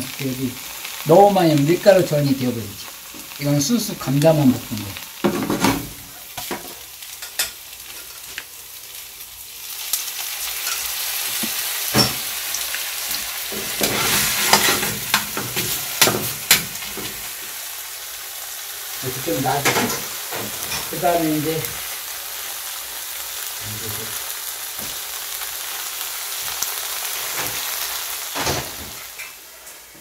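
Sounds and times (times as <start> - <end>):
potato pancake sizzling in oil: 0.0 - 30.0.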